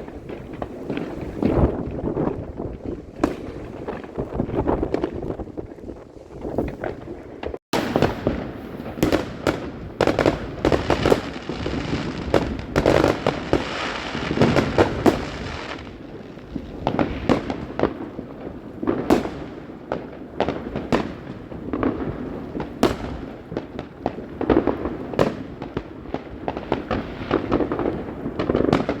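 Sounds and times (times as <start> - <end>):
fireworks crackling: 0.0 - 29.0
fireworks sharp bangs: 0.0 - 29.0.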